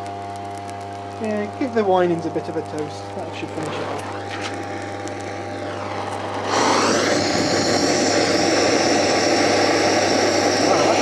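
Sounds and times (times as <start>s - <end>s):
blowtorch hissing: 0.0s - 11.0s
motor humming: 0.0s - 11.0s.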